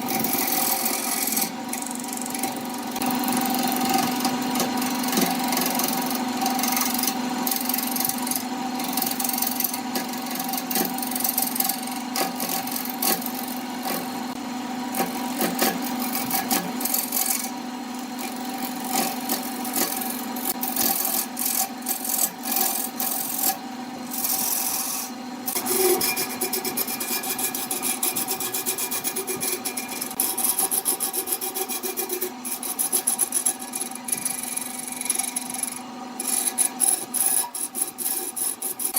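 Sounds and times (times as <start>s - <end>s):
tool scraping spinning wood: 0.0s - 38.9s
wood lathe humming: 0.0s - 38.9s.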